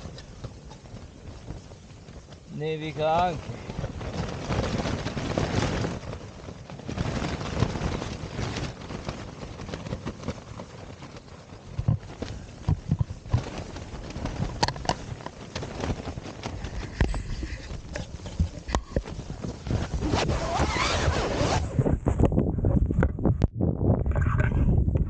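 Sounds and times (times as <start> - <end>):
tent fabric flapping: 0.0 - 23.5
storm wind gusting: 0.0 - 25.0.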